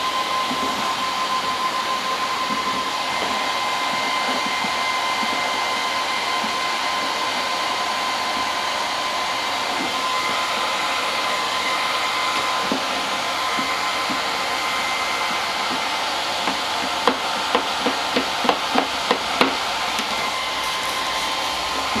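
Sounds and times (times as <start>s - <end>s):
heat gun blowing with whine: 0.0s - 22.0s.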